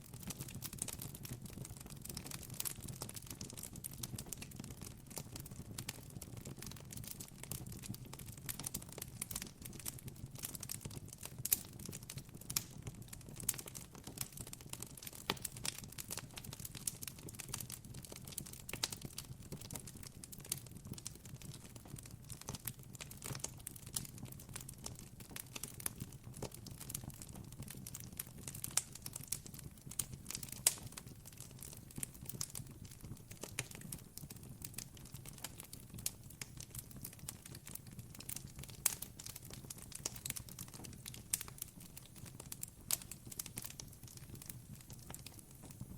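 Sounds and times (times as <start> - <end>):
campfire crackling and popping: 0.1 - 45.9.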